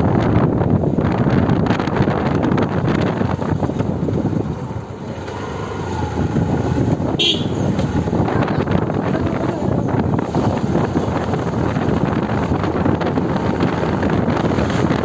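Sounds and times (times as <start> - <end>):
vehicle rumble on rough road: 0.0 - 15.0
wind buffeting microphone: 0.0 - 15.0.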